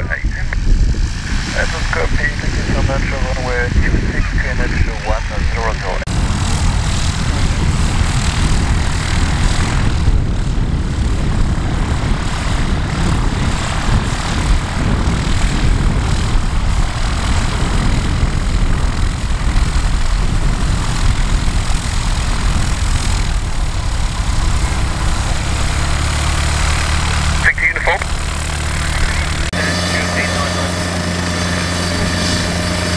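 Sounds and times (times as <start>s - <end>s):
propeller aircraft engine running: 0.0s - 32.9s.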